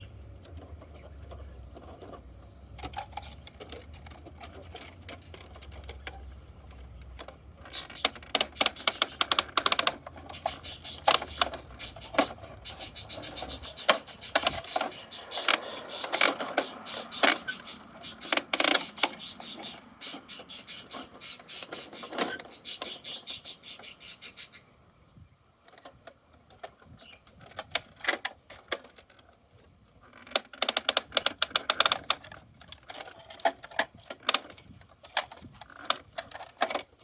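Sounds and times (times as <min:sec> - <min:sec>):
plastic toy parts clicking and rattling: 0:00.4 - 0:23.0, 0:25.6 - 0:37.0.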